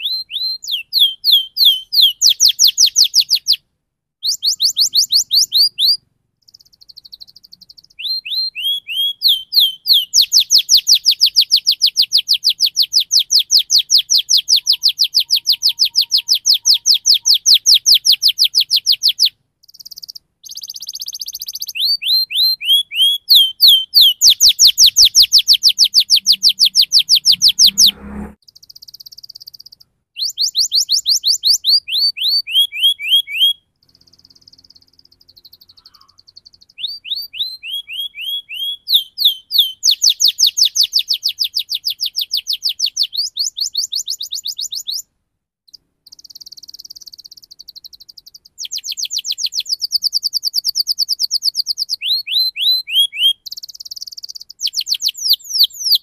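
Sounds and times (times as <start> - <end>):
canary singing trills: 0.0 - 3.6, 4.2 - 45.1, 45.7 - 56.0.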